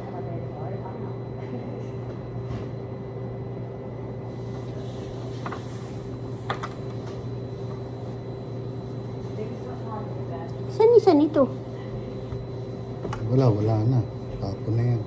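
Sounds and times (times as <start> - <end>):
laundry machines humming: 0.0 - 15.0.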